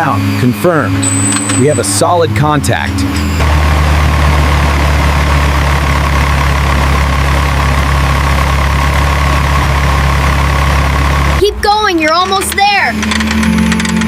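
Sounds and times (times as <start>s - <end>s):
small truck engine idling: 0.2s - 14.0s.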